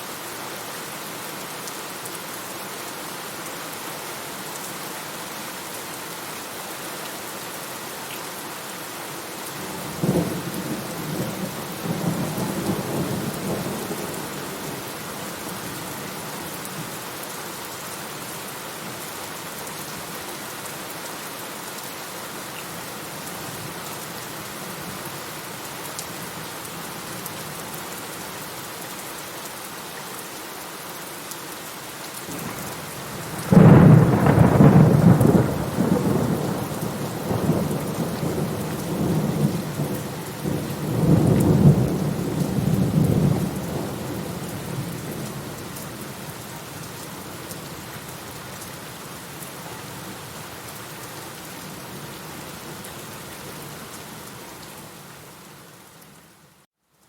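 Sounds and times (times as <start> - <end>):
heavy rain: 0.0 - 56.7.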